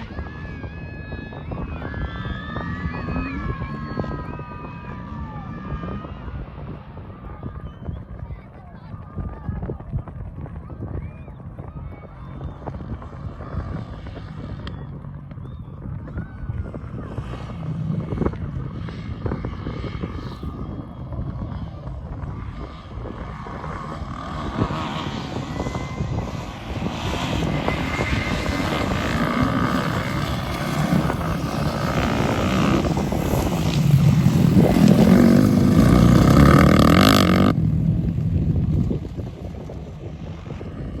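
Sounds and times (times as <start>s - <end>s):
dirt bike engines buzzing: 0.0s - 41.0s.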